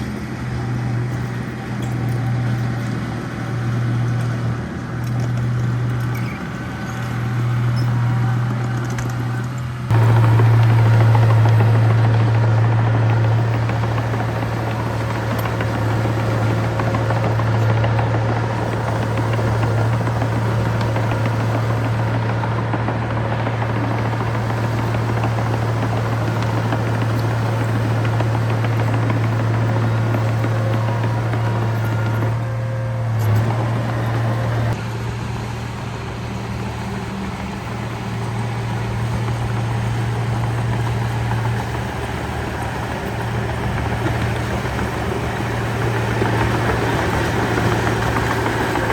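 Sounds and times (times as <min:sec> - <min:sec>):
heavy machinery diesel engine: 0:00.0 - 0:48.9.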